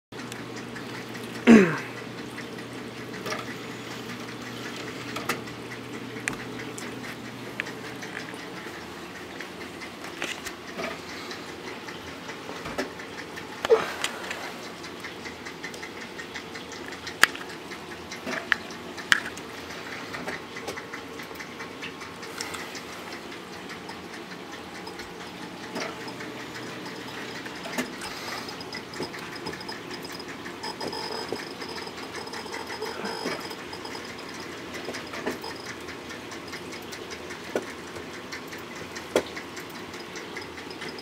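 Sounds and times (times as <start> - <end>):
steady hum: 0.2 - 41.0
sharp clicks: 2.2 - 41.0.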